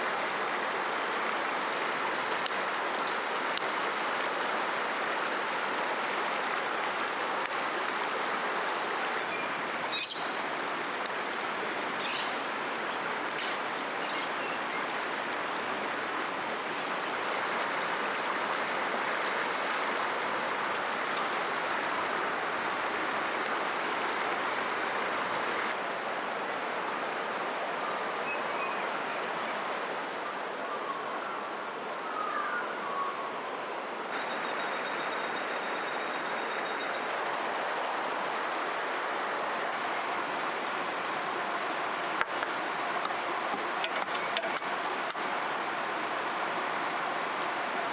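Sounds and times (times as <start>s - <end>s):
river water flowing over rocks: 0.0s - 32.0s, 32.7s - 47.9s.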